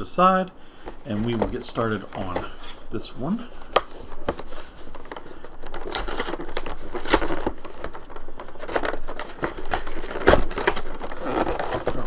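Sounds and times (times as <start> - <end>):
cardboard and plastic rustling: 0.8 - 12.0.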